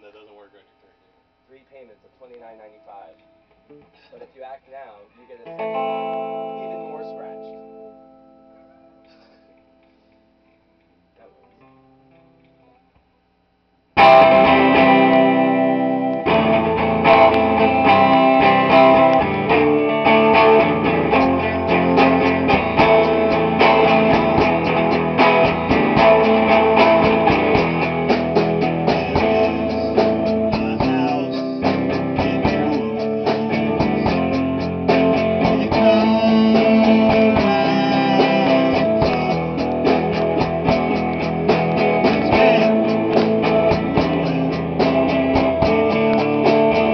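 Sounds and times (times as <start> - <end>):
rock band with electric guitar: 5.4 - 10.3, 14.0 - 46.9.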